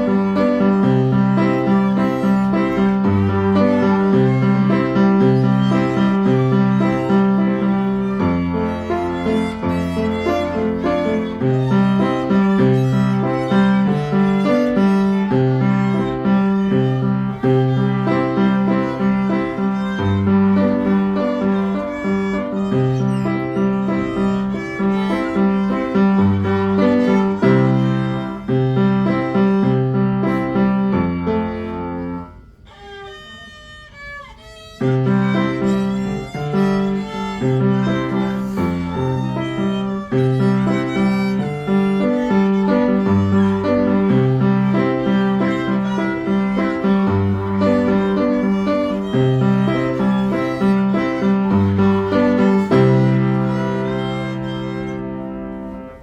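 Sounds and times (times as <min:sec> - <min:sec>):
piano accompaniment: 0:00.0 - 0:56.0
violin: 0:00.0 - 0:56.0.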